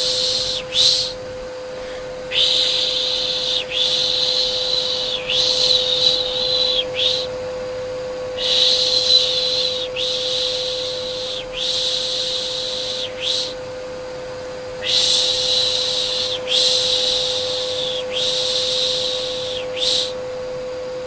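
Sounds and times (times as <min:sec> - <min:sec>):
person shushing: 0:00.0 - 0:01.2, 0:01.8 - 0:07.3, 0:08.3 - 0:13.6, 0:14.8 - 0:20.2
vacuum cleaner hum: 0:00.0 - 0:21.0.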